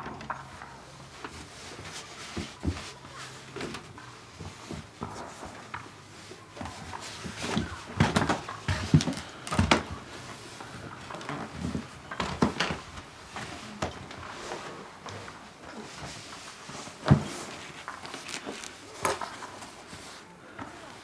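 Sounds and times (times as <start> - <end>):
rustling: 0.0 - 21.0.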